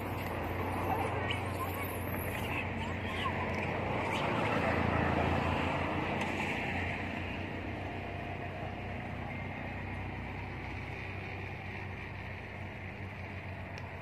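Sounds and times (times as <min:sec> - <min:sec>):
low engine rumble with hiss: 0:00.0 - 0:14.0.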